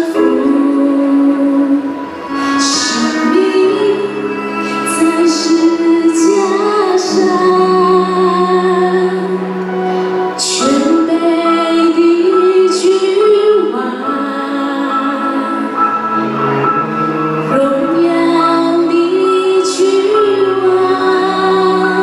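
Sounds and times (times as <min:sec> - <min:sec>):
woman singing into a microphone: 0:00.0 - 0:16.0, 0:17.4 - 0:22.0
backing music: 0:00.0 - 0:22.0.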